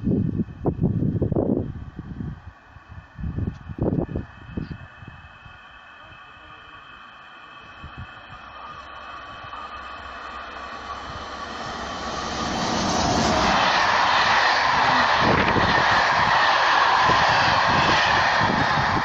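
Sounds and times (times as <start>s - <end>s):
passenger train passing: 0.0s - 19.0s
rhythmic clatter of wheels: 2.5s - 19.0s.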